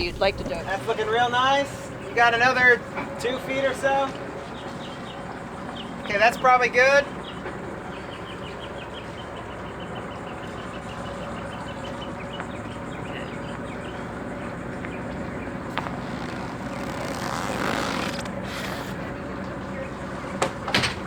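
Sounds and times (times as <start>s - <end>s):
boat engine humming: 0.0s - 20.7s.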